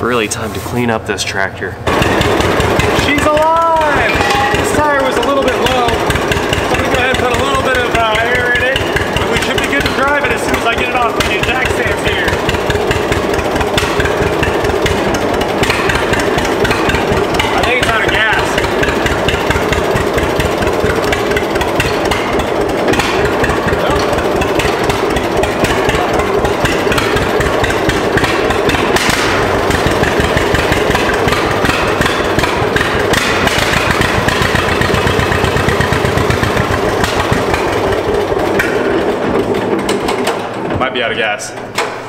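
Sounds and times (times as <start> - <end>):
two-cylinder engine running: 0.0 - 42.0.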